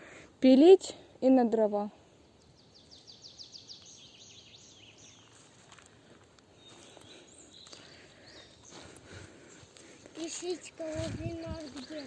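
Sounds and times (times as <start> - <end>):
songbird singing: 0.4 - 12.0.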